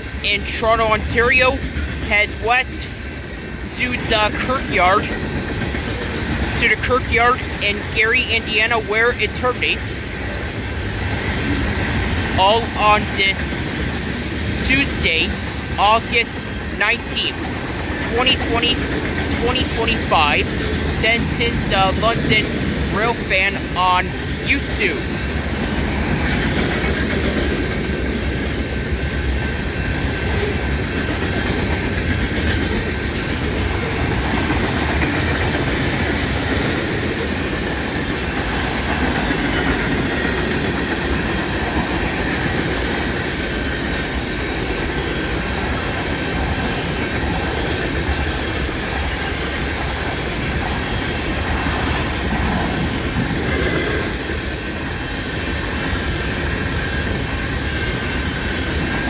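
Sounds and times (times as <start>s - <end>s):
clickety-clack over rail joints: 0.0s - 59.0s
freight train wheels rumbling: 0.0s - 59.0s.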